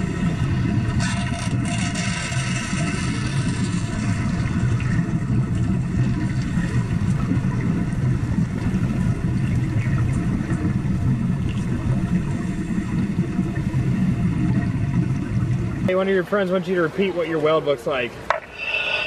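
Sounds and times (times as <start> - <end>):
underwater welding arc buzzing: 0.0 - 16.0, 18.3 - 19.0.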